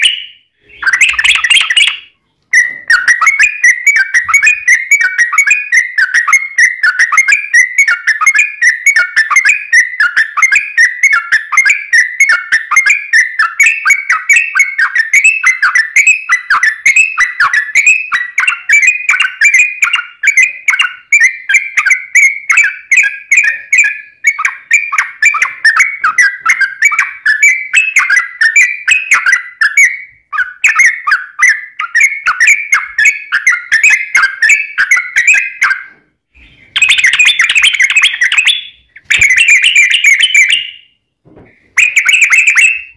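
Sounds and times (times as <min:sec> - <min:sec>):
bird singing whistled phrases: 0:00.0 - 0:41.0, 0:41.6 - 0:42.9.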